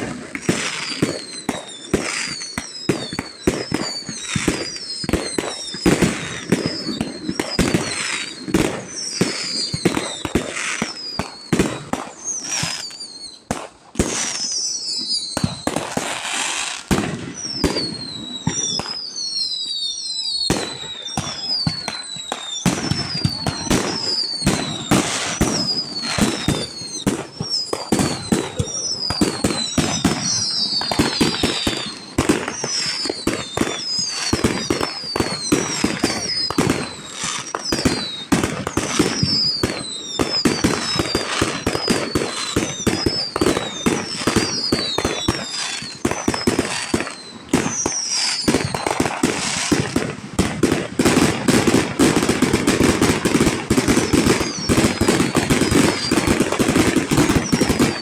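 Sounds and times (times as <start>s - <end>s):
firework whistles falling in pitch: 0.0s - 58.0s
fireworks bangs and crackling: 0.0s - 58.0s.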